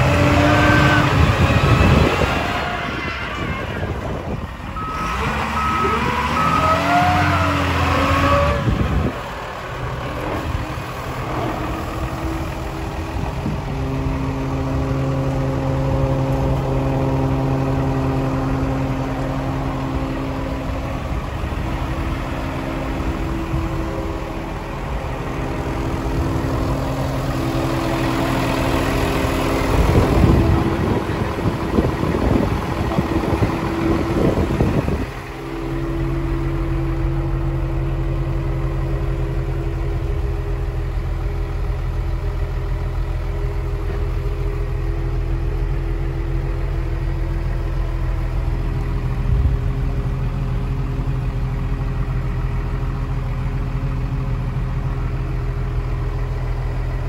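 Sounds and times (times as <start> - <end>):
forklift diesel engine idling: 0.0 - 57.0.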